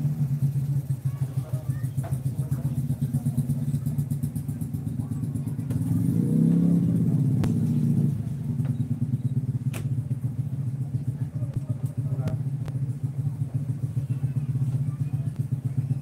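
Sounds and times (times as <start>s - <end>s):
heavy vehicle engine pulsing: 0.0s - 16.0s.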